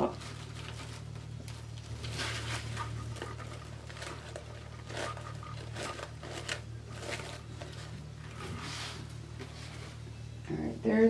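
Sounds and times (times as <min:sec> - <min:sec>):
plastic mesh rustling and crinkling: 0:00.0 - 0:09.8
steady low hum: 0:00.0 - 0:11.0.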